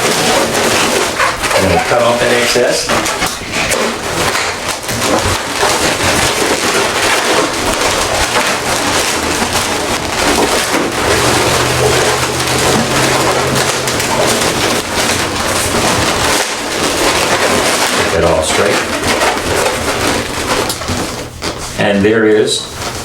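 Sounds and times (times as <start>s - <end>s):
balloons crackling and rubbing: 0.0s - 23.0s.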